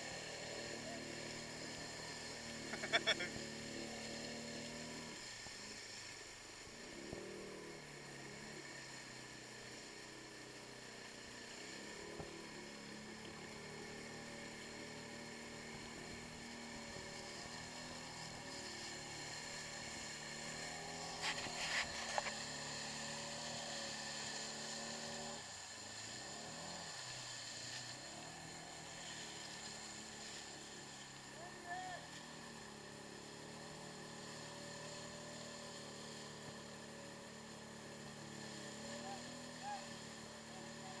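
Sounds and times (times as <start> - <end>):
atv engine running hard: 0.0 - 41.0.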